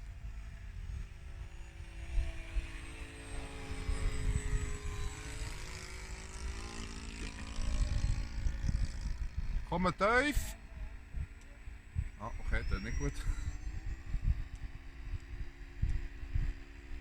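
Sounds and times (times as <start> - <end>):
electric ducted fan whine: 0.0 - 17.0
wind rumble on microphone: 0.0 - 17.0.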